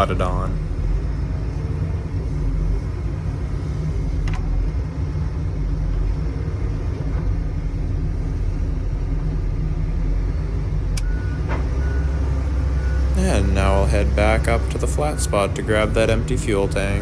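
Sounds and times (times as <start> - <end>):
loader engine running: 0.0 - 17.0.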